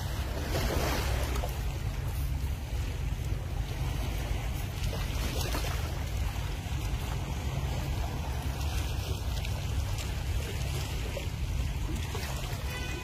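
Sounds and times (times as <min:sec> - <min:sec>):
surf on pebble beach: 0:00.0 - 0:13.0
wind rumble on microphone: 0:00.0 - 0:13.0.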